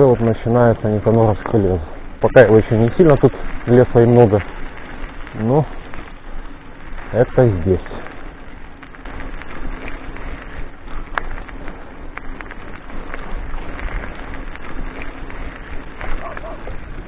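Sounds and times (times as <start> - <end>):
bicycle clicks and rattles: 0.0 - 17.0
bicycle tyres on dirt road: 0.0 - 17.0
wind buffeting microphone: 0.0 - 17.0.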